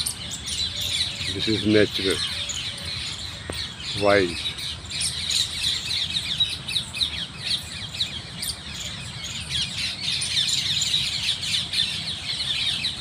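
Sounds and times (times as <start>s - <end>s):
small birds chirping chorus: 0.0s - 13.0s.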